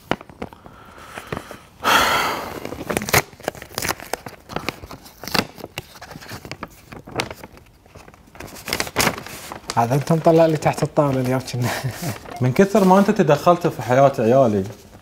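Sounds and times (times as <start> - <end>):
paper rustling and crinkling: 0.0 - 1.6, 2.5 - 15.0.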